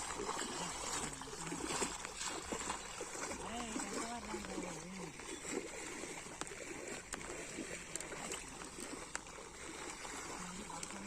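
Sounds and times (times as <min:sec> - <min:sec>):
pond water sloshing and trickling: 0:00.0 - 0:11.0.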